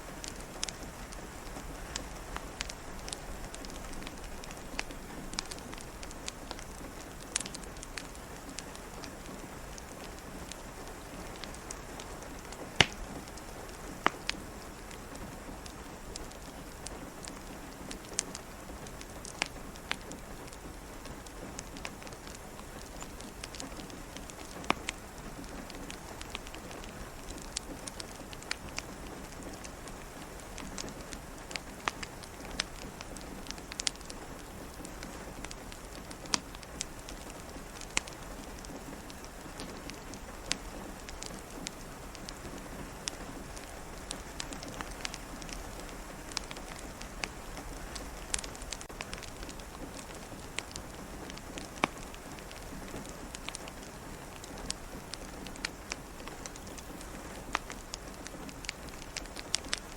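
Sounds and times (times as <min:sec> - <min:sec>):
rain pattering: 0:00.0 - 0:59.9
wood fire crackling: 0:00.0 - 0:59.9.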